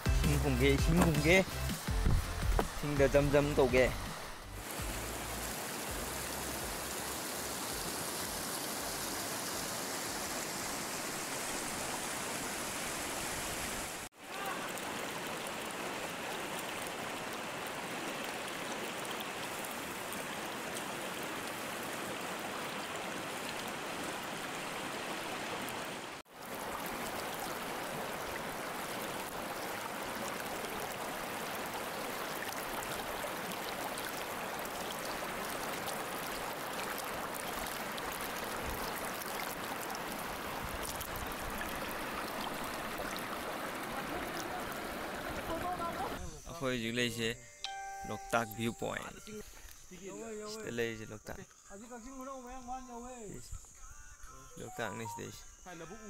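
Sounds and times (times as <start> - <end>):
flowing water rushing: 0.0 - 46.3.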